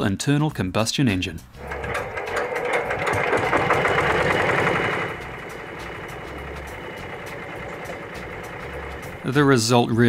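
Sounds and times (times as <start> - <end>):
petrol engine running through speakers: 1.6 - 10.0.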